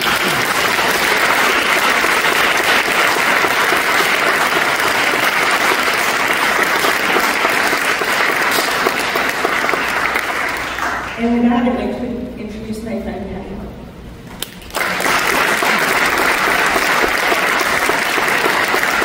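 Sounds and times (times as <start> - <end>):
audience applauding: 0.0 - 11.3, 14.4 - 19.0.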